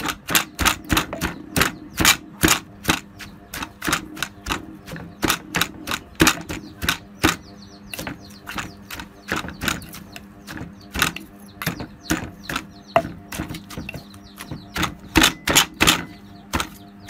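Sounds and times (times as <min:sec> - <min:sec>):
pestle pounding in a mortar: 0:00.0 - 0:16.8.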